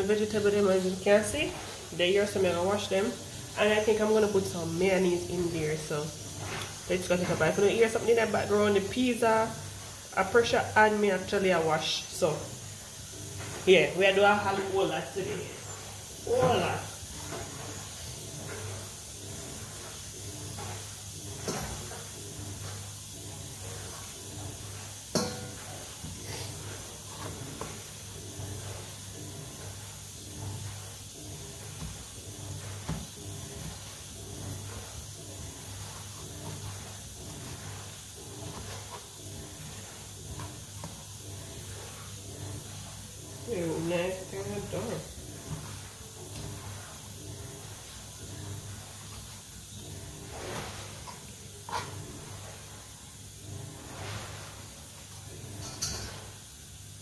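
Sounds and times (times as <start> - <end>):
pressure cooker hissing: 0.0 - 57.0.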